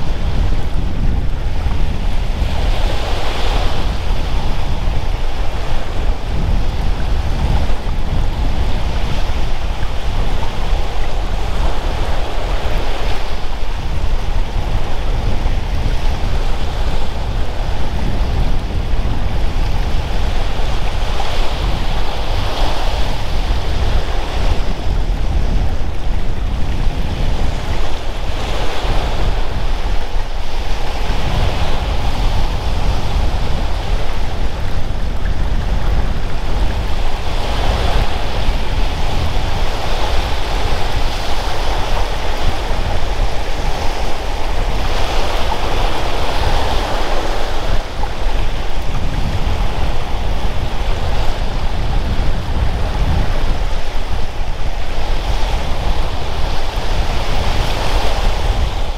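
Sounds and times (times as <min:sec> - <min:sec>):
sea surf breaking on beach: 0:00.0 - 0:58.9
wind rumbling on microphone: 0:00.0 - 0:58.9.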